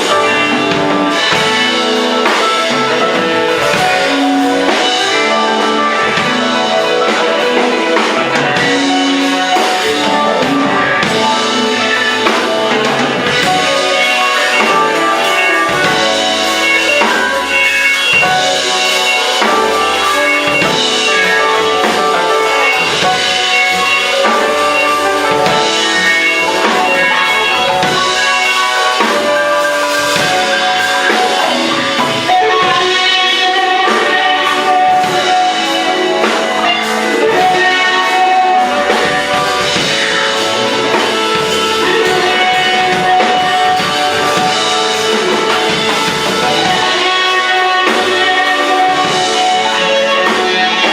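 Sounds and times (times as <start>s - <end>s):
drum kit: 0.0s - 50.9s
guitar: 0.0s - 50.9s
live band playing: 0.0s - 50.9s.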